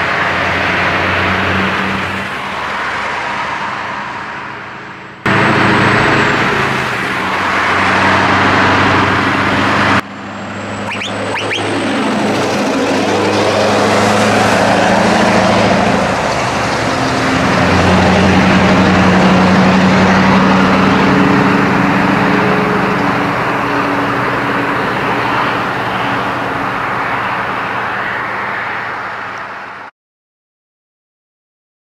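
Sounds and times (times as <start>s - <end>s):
truck diesel engine roaring: 0.0s - 29.9s.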